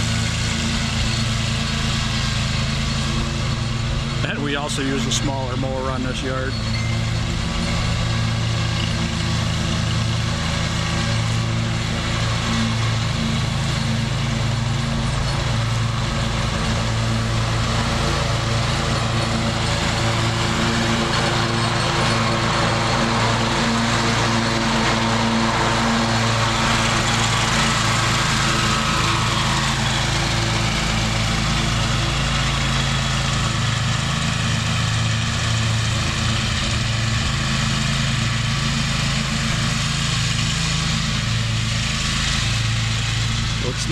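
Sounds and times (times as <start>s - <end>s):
cutting deck whir: 0.0s - 43.9s
mower engine drone: 0.0s - 43.9s.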